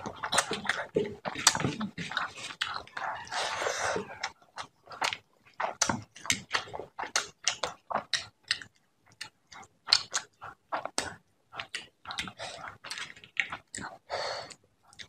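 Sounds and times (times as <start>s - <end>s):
chewing with wet smacks: 0.0s - 15.0s.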